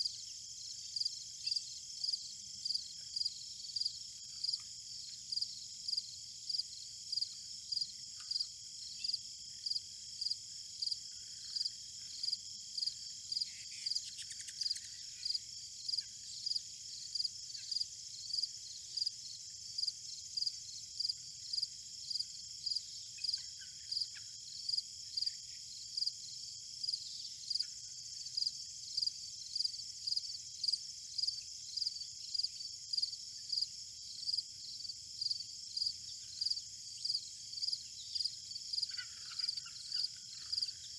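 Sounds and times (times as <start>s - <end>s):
insect chirping: 0.0s - 40.9s
insects trilling: 0.0s - 40.9s.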